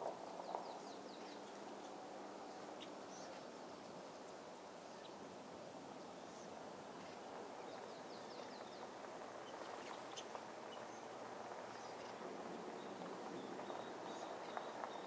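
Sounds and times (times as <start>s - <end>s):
steady outdoor rushing hiss: 0.0s - 15.0s.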